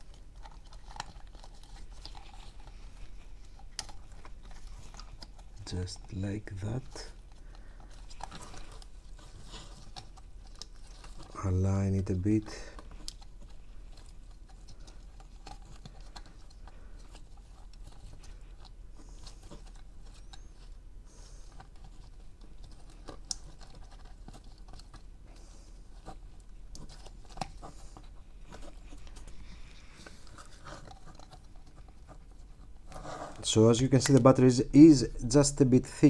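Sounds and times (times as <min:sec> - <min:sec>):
handling clicks and scratches: 0:00.0 - 0:35.4
faint low hum: 0:00.0 - 0:36.0.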